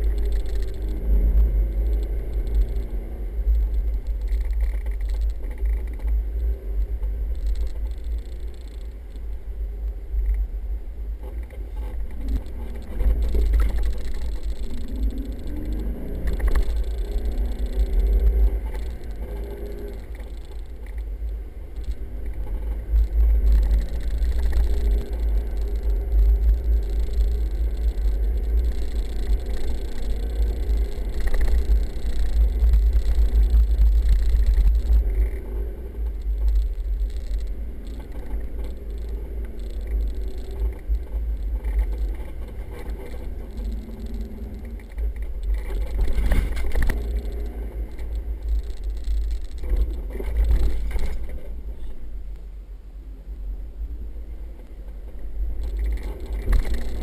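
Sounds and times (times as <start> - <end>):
vehicle engine and tyres rumbling: 0.0 - 57.0.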